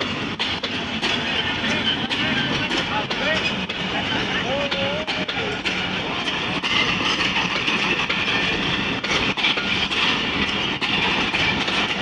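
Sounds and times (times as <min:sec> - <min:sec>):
train coaches rolling past: 0:00.0 - 0:12.0
wheels clicking over track: 0:00.0 - 0:12.0.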